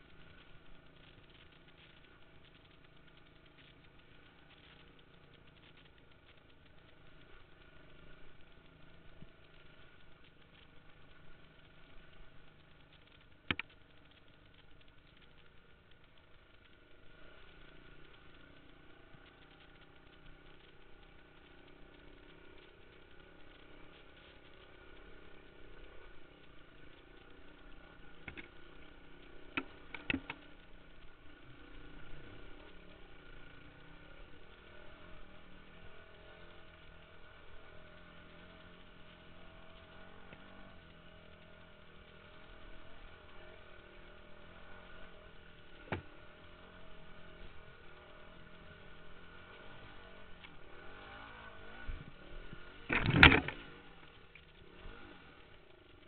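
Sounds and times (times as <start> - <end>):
motorcycle engine at low revs: 0.0 - 56.0.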